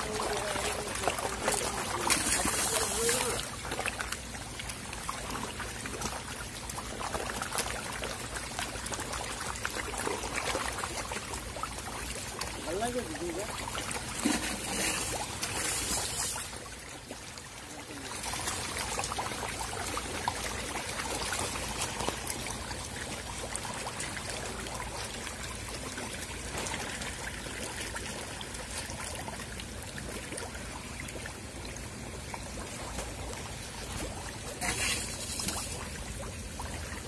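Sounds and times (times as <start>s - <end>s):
fish splashing in water: 0.0s - 37.0s.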